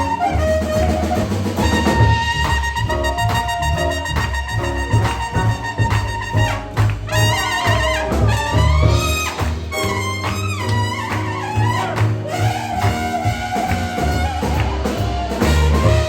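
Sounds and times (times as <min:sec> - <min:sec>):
jazz brass horns: 0:00.0 - 0:16.0
steady bass beat: 0:00.0 - 0:16.0.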